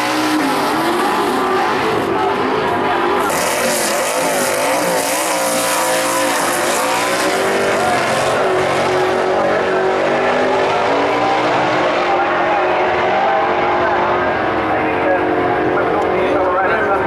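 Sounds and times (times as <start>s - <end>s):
car engines at full throttle: 0.0s - 17.0s.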